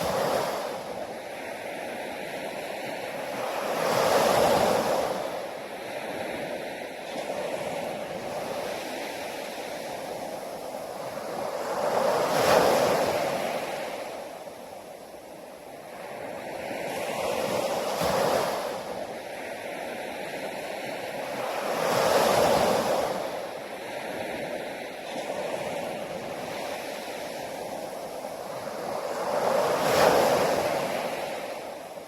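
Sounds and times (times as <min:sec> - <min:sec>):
sea waves washing onto shore: 0:00.0 - 0:32.0.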